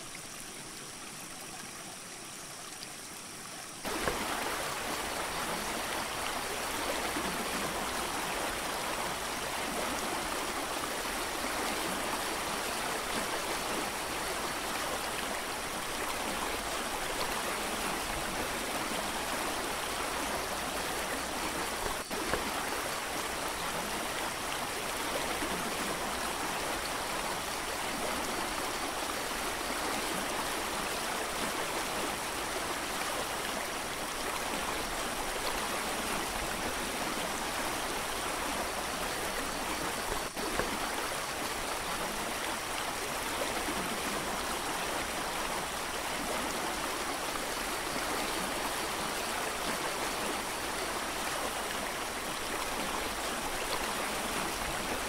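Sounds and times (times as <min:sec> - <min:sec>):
mountain creek rushing: 0:00.0 - 0:55.0.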